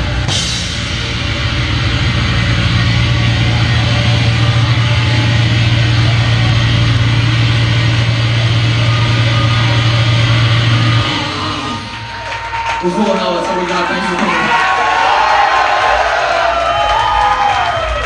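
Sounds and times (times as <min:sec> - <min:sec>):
low amplifier feedback drone: 0:00.0 - 0:16.8.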